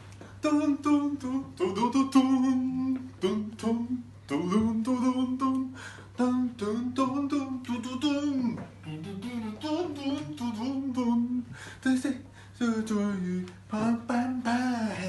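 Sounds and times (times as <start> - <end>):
person singing wordless syllables: 0.4 - 15.0.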